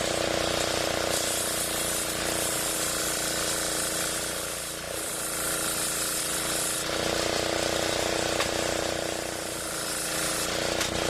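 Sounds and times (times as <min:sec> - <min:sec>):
circular sawmill humming and hissing: 0:00.0 - 0:11.0.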